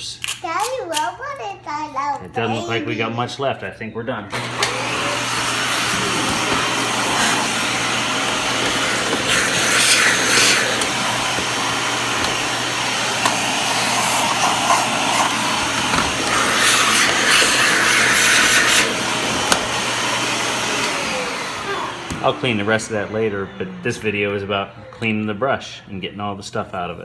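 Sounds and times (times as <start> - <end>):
vacuum cleaner running: 2.4 - 3.5, 4.3 - 27.0.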